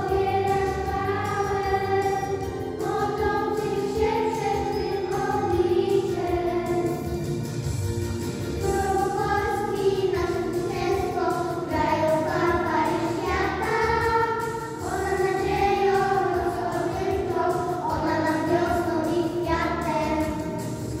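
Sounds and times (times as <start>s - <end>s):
children's choir singing: 0.0s - 7.5s, 8.6s - 21.0s
low musical accompaniment: 0.0s - 21.0s.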